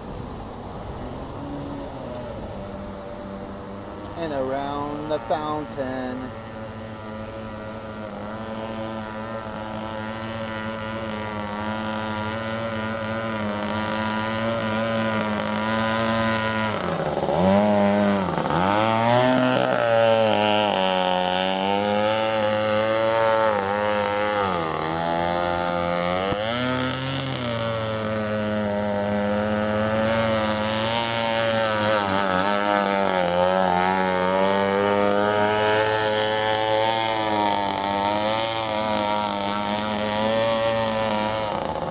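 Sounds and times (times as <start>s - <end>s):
two-stroke engine running: 0.0s - 41.9s.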